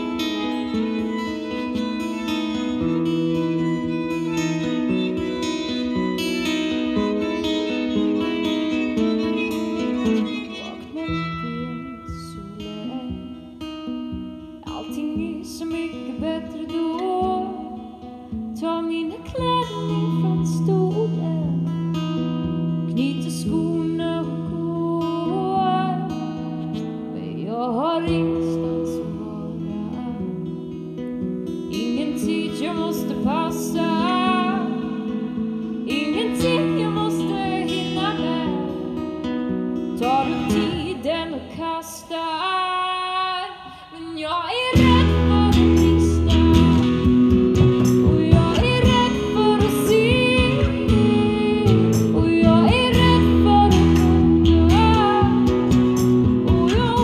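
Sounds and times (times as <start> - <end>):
acoustic guitar strumming: 0.0 - 43.6, 44.3 - 57.0
electric guitar: 0.0 - 57.0
woman singing: 0.0 - 57.0.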